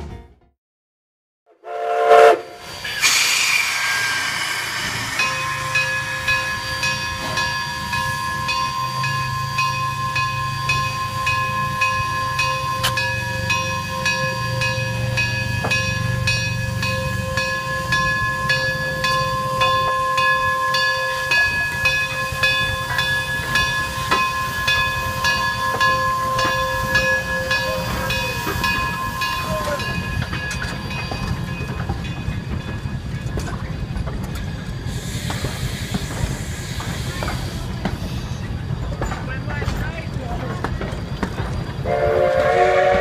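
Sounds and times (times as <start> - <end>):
steam locomotive whine: 1.6 - 43.0
steam hissing: 1.8 - 43.0.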